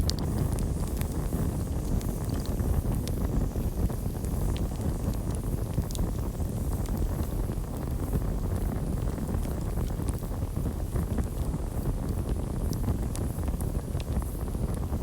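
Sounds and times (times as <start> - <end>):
campfire rumble: 0.0 - 15.0
fire crackles and pops: 0.0 - 15.0.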